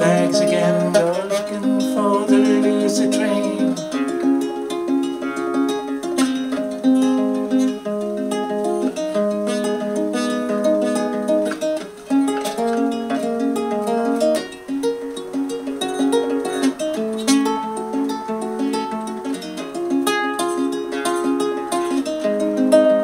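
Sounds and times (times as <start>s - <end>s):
solo ukulele playing: 0.0s - 23.0s.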